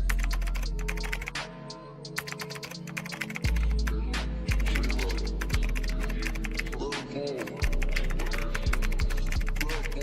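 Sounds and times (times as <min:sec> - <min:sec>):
typing on a computer keyboard: 0:00.0 - 0:01.4, 0:02.2 - 0:10.0
music with deep bass line: 0:00.0 - 0:02.2, 0:03.4 - 0:10.0.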